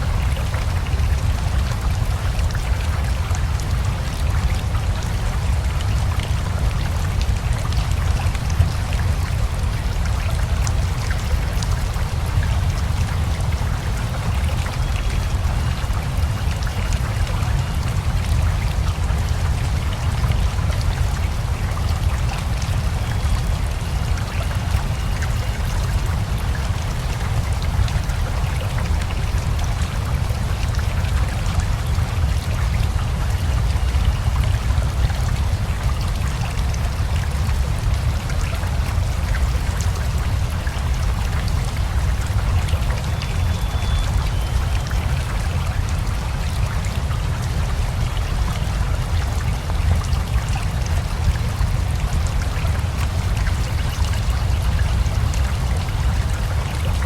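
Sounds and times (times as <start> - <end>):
flowing river: 0.0 - 57.0
steady rain: 0.0 - 57.0.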